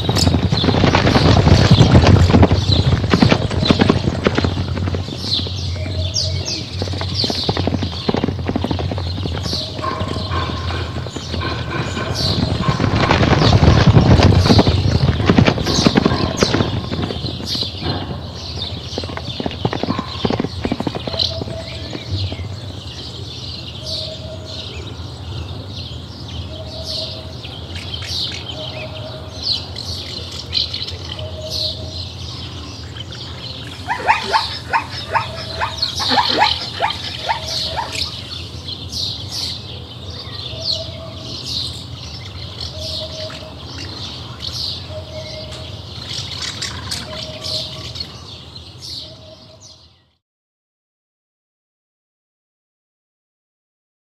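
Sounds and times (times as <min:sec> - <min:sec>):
birds chirping: 0:00.0 - 0:50.2.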